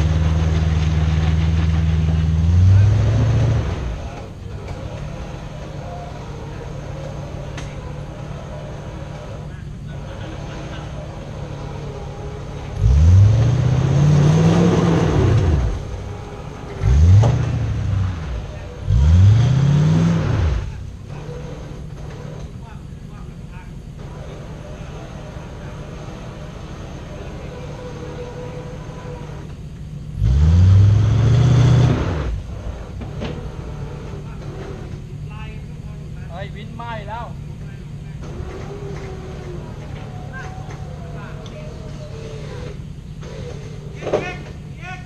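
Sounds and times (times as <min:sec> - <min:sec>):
off-road engine revving: 0:00.0 - 0:45.0.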